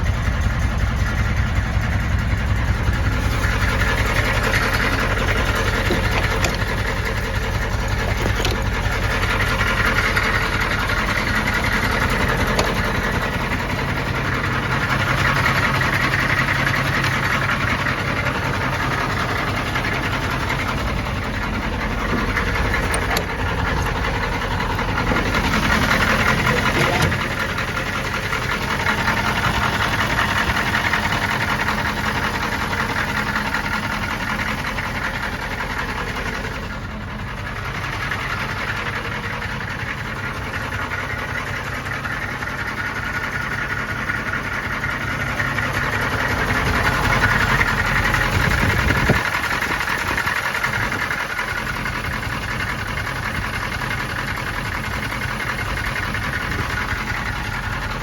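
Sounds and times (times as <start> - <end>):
diesel engine idling with clatter: 0.0 - 58.0.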